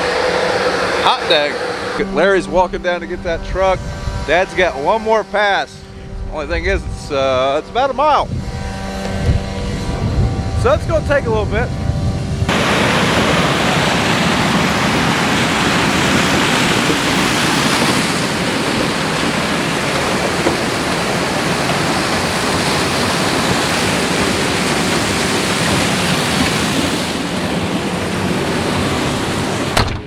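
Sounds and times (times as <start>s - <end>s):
combine harvester rushing noise: 0.0s - 30.0s.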